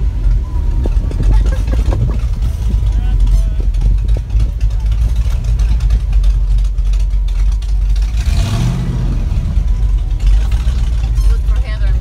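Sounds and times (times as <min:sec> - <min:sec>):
engine revving: 0:00.0 - 0:12.0
truck engine running slowly: 0:00.0 - 0:12.0.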